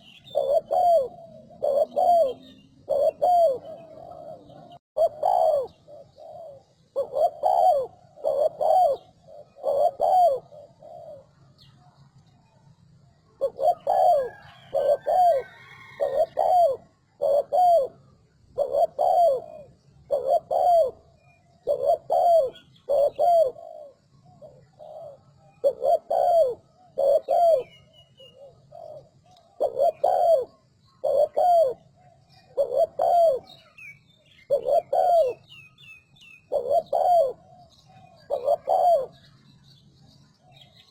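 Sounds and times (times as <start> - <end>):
dove cooing: 0.0 - 12.0, 13.2 - 39.4
small birds chirping: 0.0 - 40.9.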